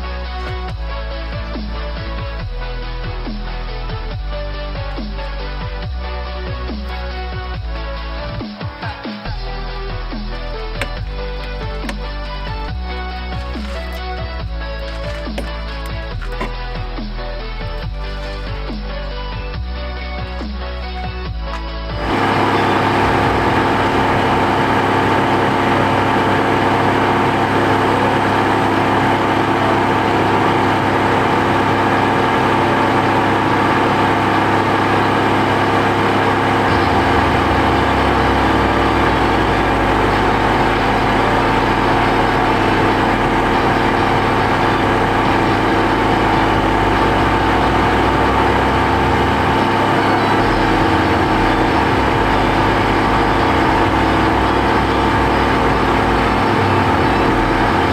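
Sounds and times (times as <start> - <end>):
car engine idling: 0.0 - 57.9
constant whine: 0.0 - 57.9.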